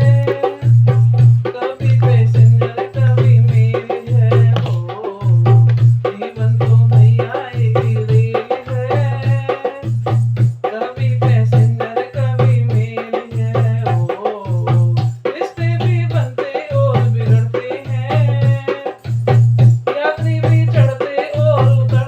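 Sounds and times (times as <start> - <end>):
low drum beat: 0.0 - 22.0
rattling hand percussion: 0.0 - 22.0.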